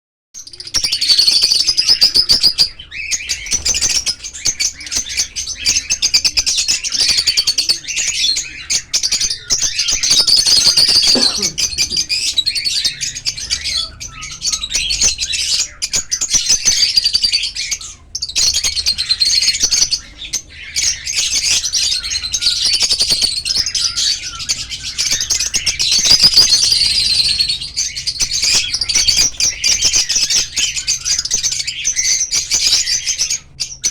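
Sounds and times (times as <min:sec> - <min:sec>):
lovebirds chattering and chirping: 0:00.4 - 0:33.9.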